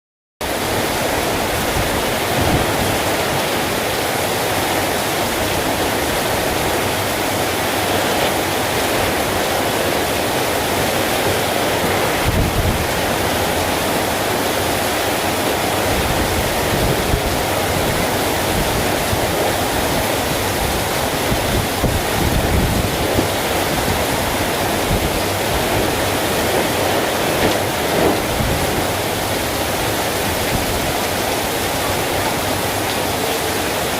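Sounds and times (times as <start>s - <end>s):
heavy rain pouring: 0.4s - 33.9s
wind gusting against microphone: 0.4s - 33.9s.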